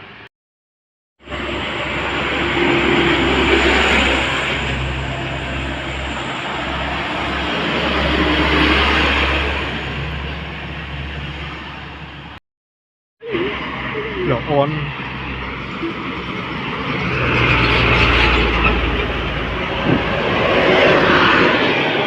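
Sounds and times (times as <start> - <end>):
heavy vehicles passing: 1.2 - 12.4, 13.2 - 22.0.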